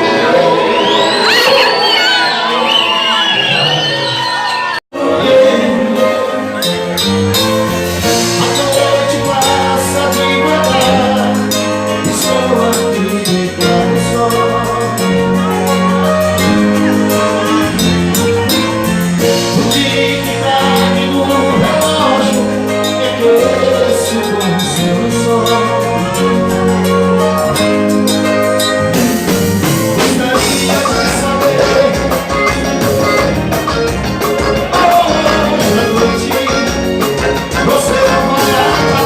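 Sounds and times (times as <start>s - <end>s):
live band music: 0.0s - 39.0s.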